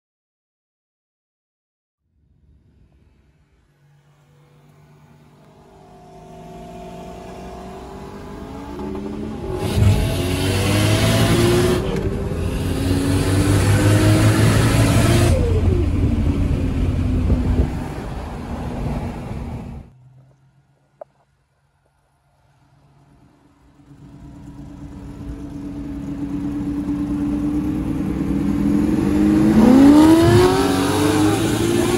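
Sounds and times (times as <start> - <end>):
car engine accelerating hard: 2.7 - 19.9, 23.0 - 31.9.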